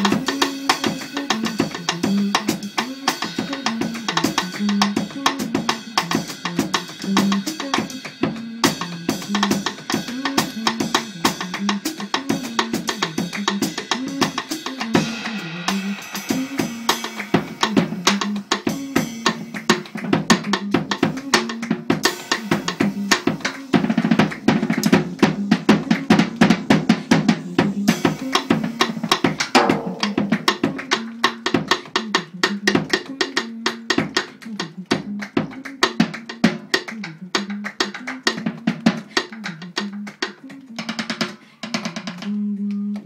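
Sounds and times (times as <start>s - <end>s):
jazz drum kit played with sticks: 0.0s - 43.0s.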